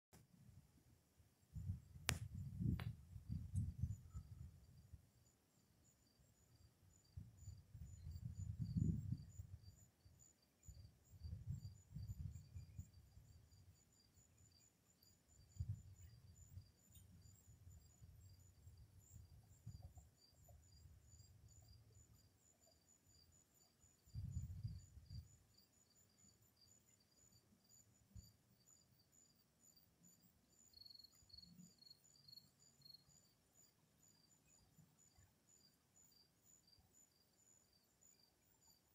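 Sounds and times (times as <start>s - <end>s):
faint crickets chirping: 0.2s - 38.9s.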